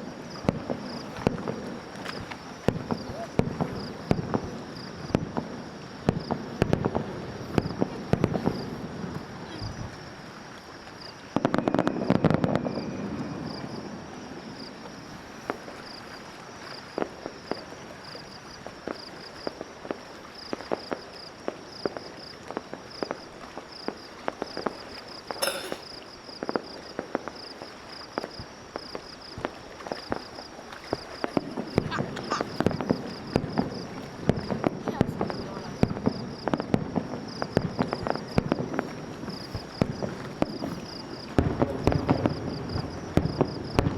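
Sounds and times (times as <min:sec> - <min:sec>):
fireworks popping and crackling: 0:00.0 - 0:43.9
insects chirping: 0:00.0 - 0:43.9.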